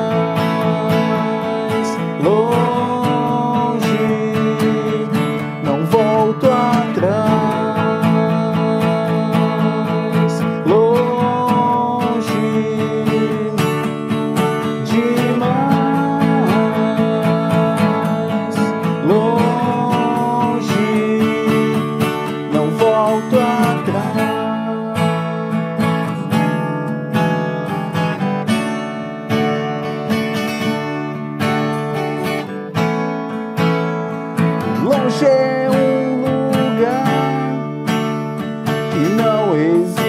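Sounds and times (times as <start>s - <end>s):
lead guitar melody with bends: 0.0s - 40.0s
strummed acoustic guitar: 0.0s - 40.0s.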